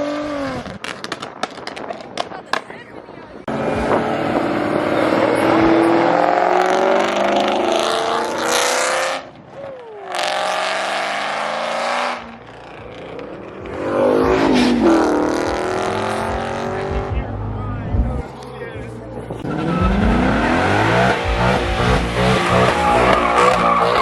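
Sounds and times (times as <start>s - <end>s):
car engine revving: 3.4s - 24.0s.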